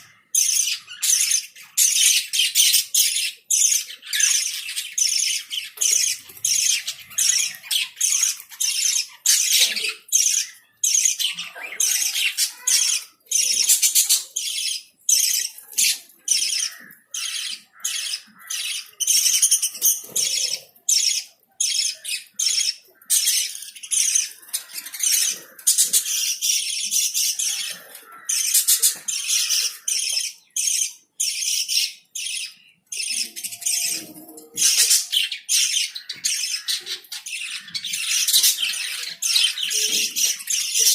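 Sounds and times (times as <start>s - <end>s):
lovebirds squawking and chirping: 0.0s - 40.9s.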